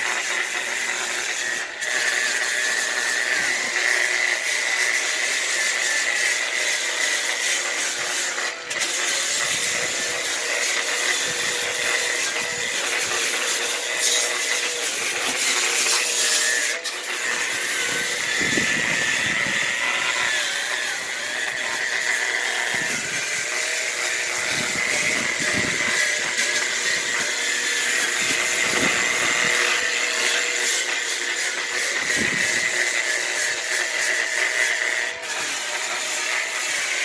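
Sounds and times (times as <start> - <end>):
power tool motor whine: 0.0 - 37.0.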